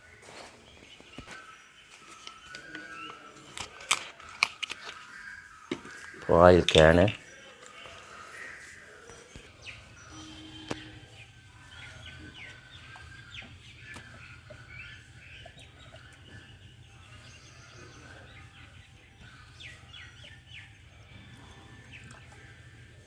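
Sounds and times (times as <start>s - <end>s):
birds chirping faintly: 0.0s - 23.0s.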